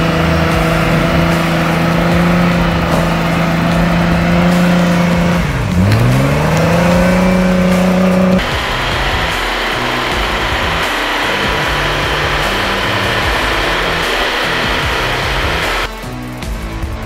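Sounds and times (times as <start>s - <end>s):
tyres spinning in snow: 0.0s - 15.9s
engine revving: 0.0s - 16.0s.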